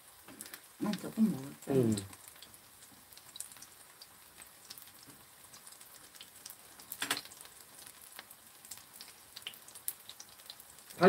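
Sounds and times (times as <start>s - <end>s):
pancake sizzling in oil: 0.0s - 11.0s.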